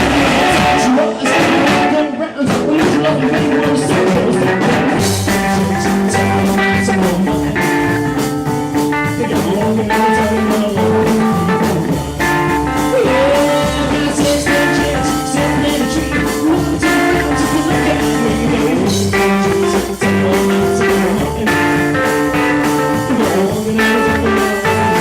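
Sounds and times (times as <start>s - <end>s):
lead guitar with bent notes: 0.0s - 25.0s
rockabilly band playing live: 0.0s - 25.0s.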